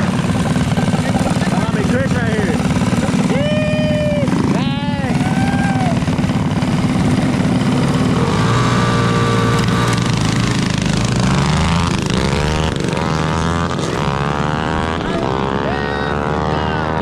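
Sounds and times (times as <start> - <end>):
mini bike engines revving: 0.0 - 17.0.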